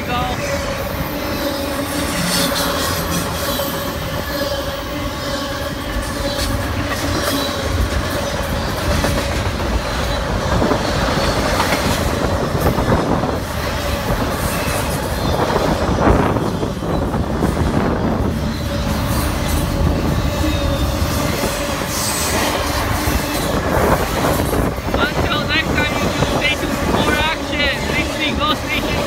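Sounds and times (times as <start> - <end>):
train wheel squeal: 0.8 - 24.8
train wheels clicking over rail joints: 5.7 - 29.0.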